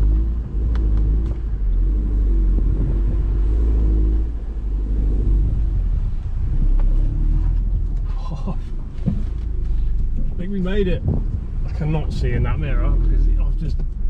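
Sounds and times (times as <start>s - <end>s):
car engine running at low revs: 0.0s - 14.0s.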